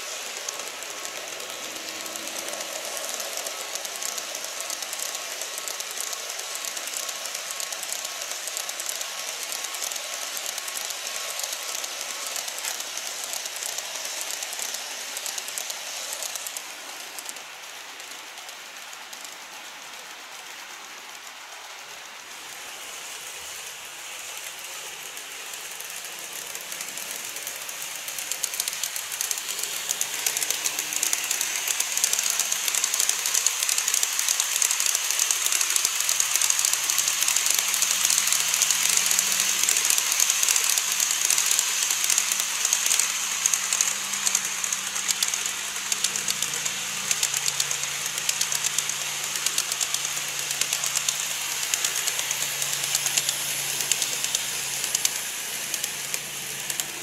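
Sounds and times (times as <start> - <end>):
model train wheels clattering on rail: 0.0 - 57.0.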